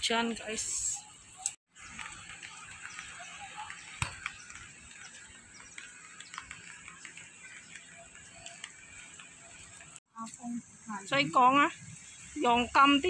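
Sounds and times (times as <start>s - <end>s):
light rain hiss: 0.0s - 13.0s.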